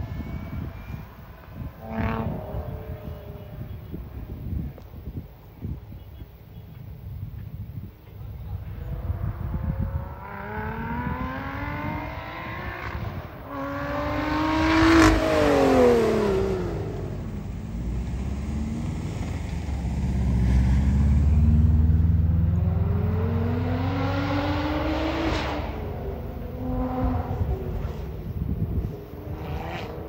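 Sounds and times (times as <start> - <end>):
car engine accelerating hard: 0.0 - 4.0, 8.5 - 30.0.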